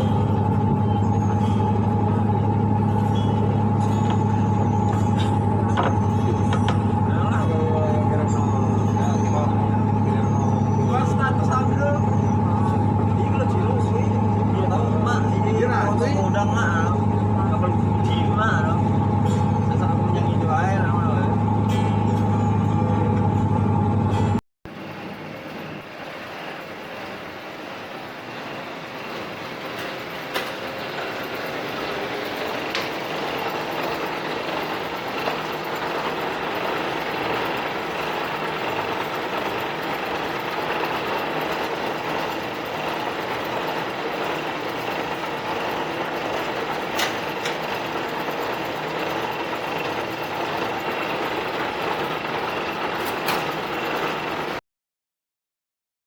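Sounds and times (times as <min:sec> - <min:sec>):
engine drone: 0:00.0 - 0:54.6.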